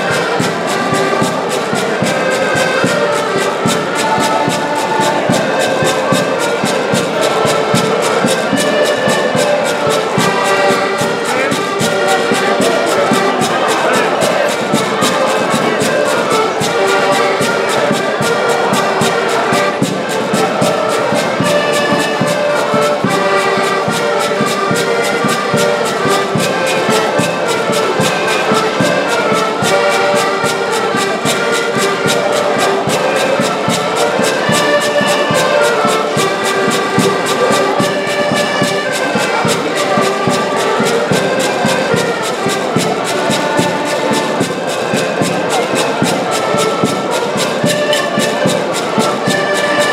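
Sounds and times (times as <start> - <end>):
accordion ensemble playing folk music: 0.0 - 49.9.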